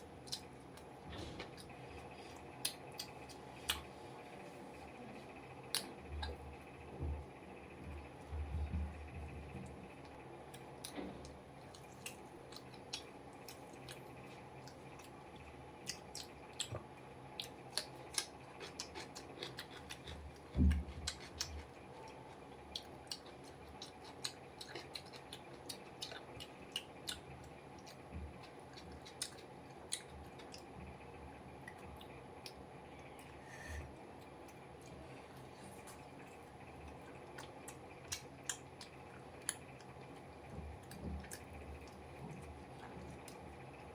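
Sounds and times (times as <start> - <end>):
person chewing: 0.2 - 4.0, 10.5 - 30.7, 31.6 - 43.4.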